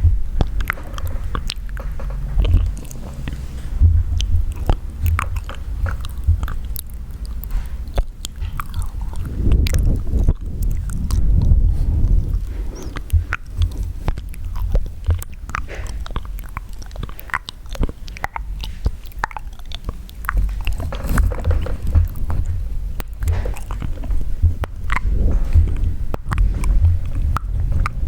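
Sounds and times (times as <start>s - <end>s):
low rumble: 0.0s - 17.1s, 20.2s - 28.0s
wet mouth clicks and smacks: 0.0s - 28.0s.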